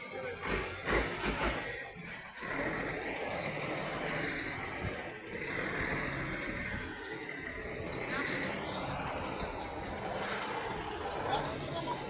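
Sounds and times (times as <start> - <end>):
truck running noise: 0.0 - 12.0.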